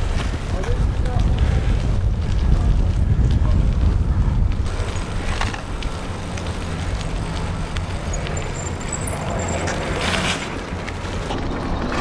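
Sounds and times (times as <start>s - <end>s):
wind on microphone: 0.0s - 11.2s
bicycle tyres rumbling on wet road: 0.0s - 12.0s.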